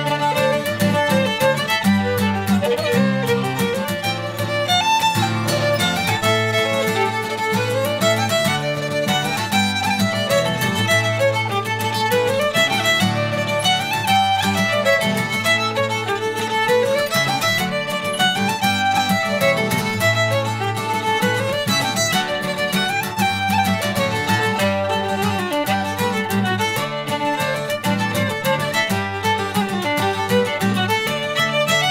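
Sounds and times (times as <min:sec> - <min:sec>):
guitar accompaniment: 0:00.0 - 0:31.9
lively fiddle tune: 0:00.0 - 0:31.9.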